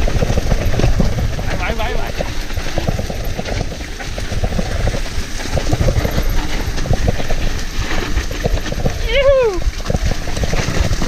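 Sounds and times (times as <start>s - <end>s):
mountain bike rattling on trail: 0.0s - 11.0s.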